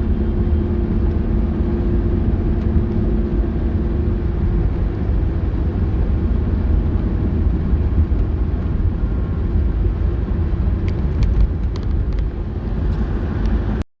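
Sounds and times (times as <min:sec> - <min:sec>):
car driving rumble: 0:00.0 - 0:13.8.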